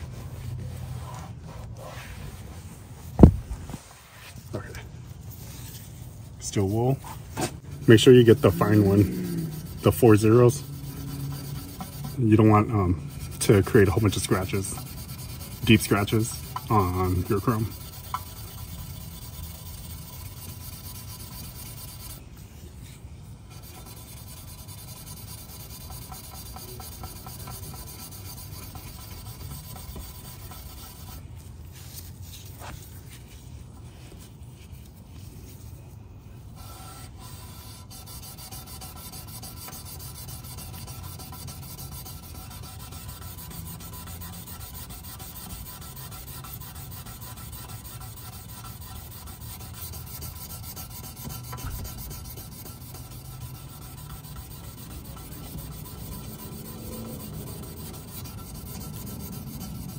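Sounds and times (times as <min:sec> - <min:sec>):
steel wool rubbing on metal: 0:00.0 - 0:59.9.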